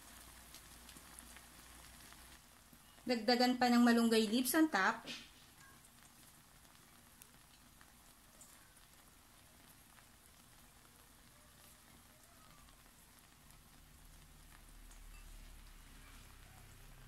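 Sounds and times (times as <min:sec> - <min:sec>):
omelette sizzling in frying pan: 0:00.0 - 0:17.0.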